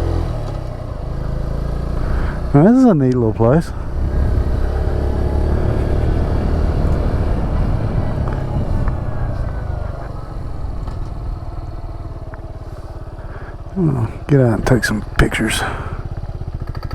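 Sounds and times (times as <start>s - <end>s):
motorcycle engine rumbling: 0.0s - 16.9s.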